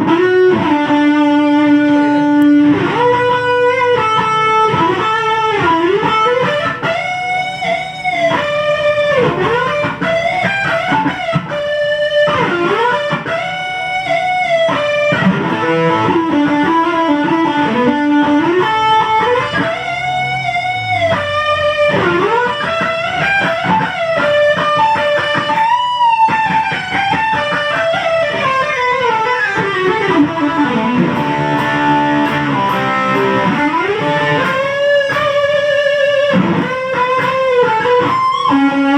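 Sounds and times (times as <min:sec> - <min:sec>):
electric guitar lead line: 0:00.0 - 0:38.9.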